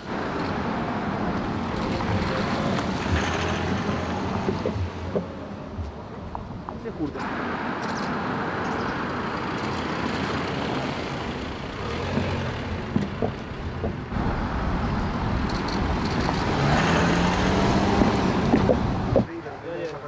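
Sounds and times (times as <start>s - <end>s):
cars driving past: 0.0s - 19.4s.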